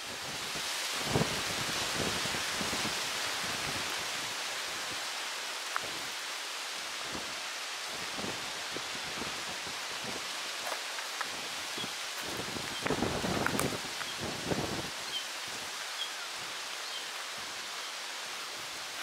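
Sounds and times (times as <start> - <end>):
wind through tree leaves: 0.0 - 19.0.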